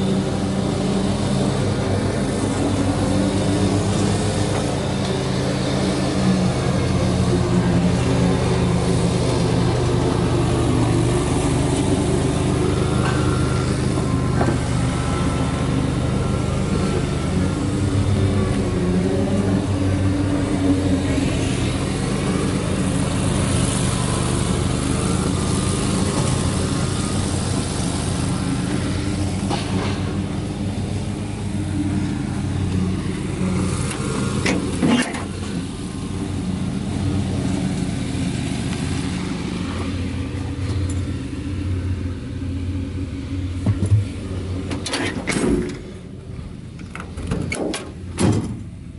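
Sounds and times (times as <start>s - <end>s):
truck engine idling: 0.0s - 48.9s.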